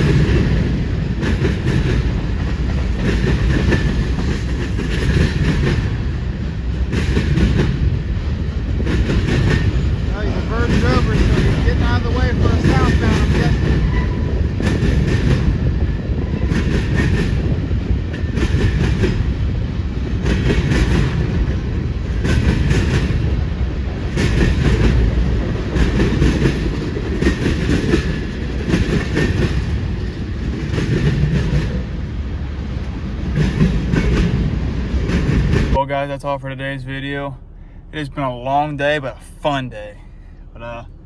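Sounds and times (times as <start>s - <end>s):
wheels clacking over rail joints: 0.0s - 35.8s
freight train rumbling: 0.0s - 41.0s.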